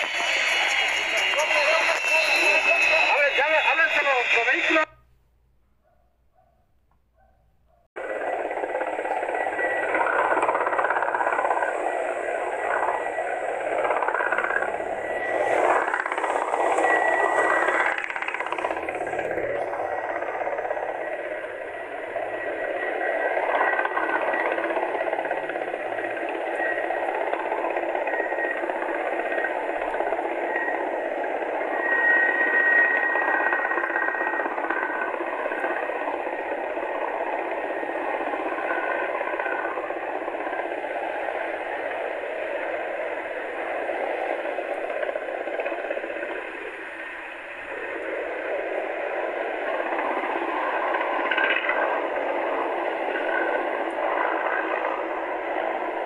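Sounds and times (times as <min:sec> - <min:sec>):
helicopter engine and rotor: 0:00.0 - 0:05.0, 0:08.0 - 0:56.0
thin whine: 0:00.0 - 0:05.2, 0:08.0 - 0:56.0.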